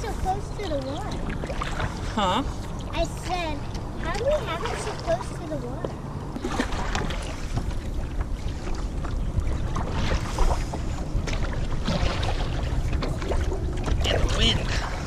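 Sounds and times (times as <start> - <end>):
water lapping against a hull: 0.0 - 15.0
wind buffeting microphone: 0.0 - 15.0.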